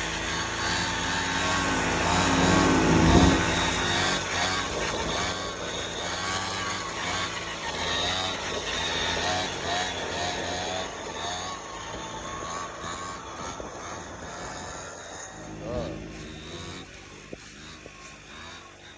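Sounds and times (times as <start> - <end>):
small two-stroke engine revving: 0.0 - 18.9.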